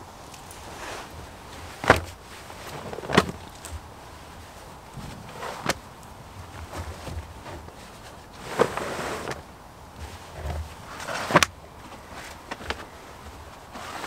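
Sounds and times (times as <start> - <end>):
hides rustling and flapping: 0.0 - 14.0.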